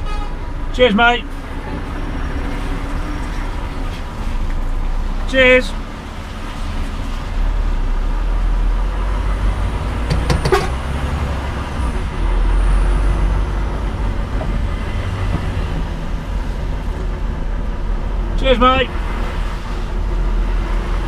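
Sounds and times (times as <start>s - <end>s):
lorry diesel engine rumble: 0.0s - 21.0s.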